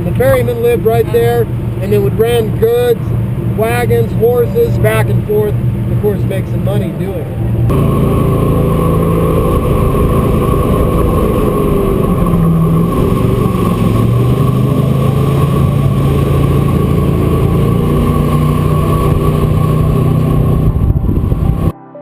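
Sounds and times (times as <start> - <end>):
jet boat engine running: 0.0 - 21.7
steady high whine: 0.0 - 21.8.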